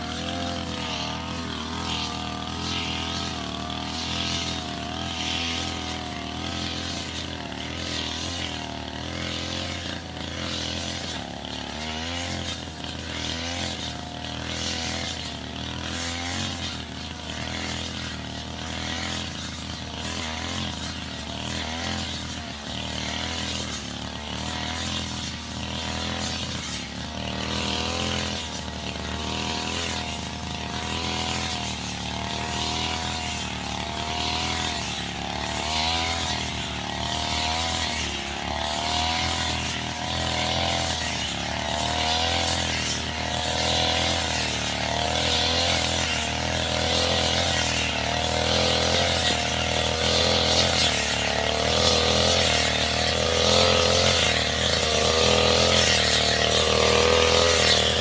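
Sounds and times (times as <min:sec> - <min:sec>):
brush cutter cutting grass: 0:00.0 - 0:58.0.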